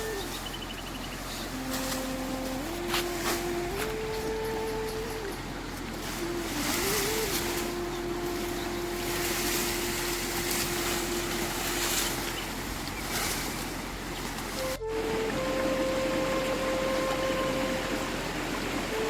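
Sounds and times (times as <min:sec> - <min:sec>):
rushing water: 0:00.0 - 0:19.0
thin tone holding long notes: 0:00.0 - 0:19.0.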